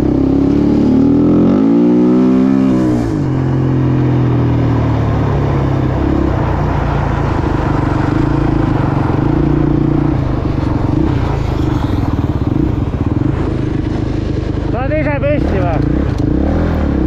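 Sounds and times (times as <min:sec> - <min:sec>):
dirt bike engine revving: 0:00.0 - 0:04.9, 0:07.0 - 0:17.0.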